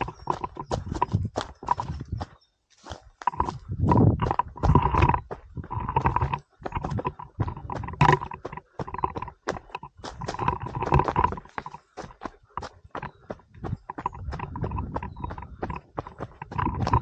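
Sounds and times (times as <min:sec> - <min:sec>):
footsteps on rocky trail: 0:00.0 - 0:17.0.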